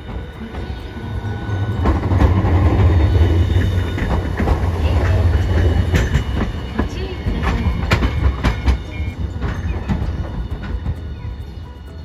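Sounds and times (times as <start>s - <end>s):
tram rumbling past: 0.0s - 12.0s
wheels clicking on rails: 0.0s - 12.0s.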